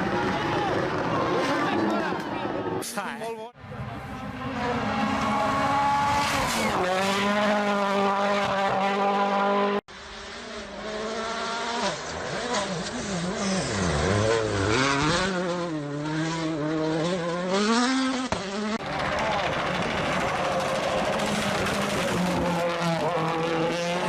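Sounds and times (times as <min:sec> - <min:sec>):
rally car engine revving: 0:04.2 - 0:24.0.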